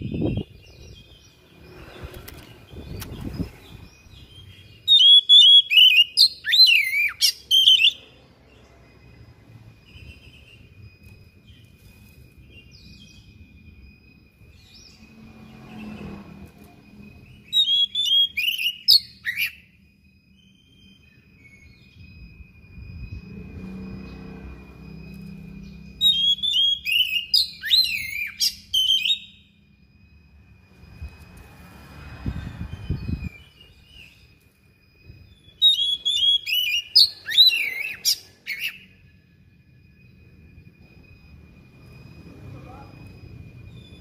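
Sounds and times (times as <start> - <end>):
bird singing whistles: 0.0 - 15.0, 15.6 - 23.9, 25.6 - 30.1, 32.3 - 40.8.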